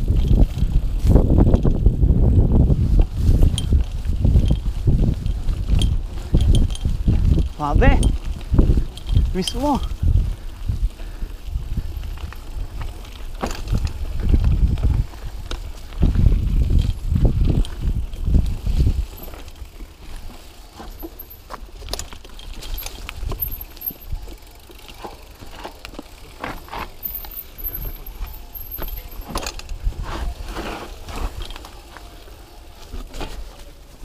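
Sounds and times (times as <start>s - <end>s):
bike rattling over rocks: 0.0s - 34.0s.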